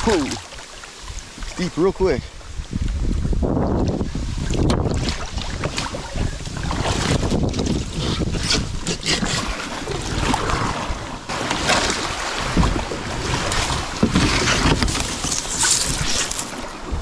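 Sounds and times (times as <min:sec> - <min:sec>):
water rushing and splashing: 0:00.0 - 0:17.0
wind buffeting microphone: 0:01.1 - 0:17.0.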